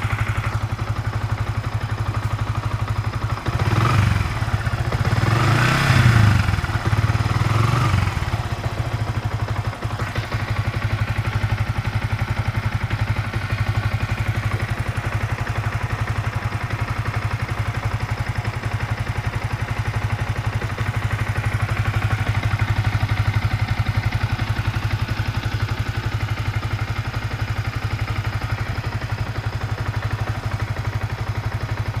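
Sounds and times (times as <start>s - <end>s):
motorcycle engine idling with clatter: 0.0s - 32.0s.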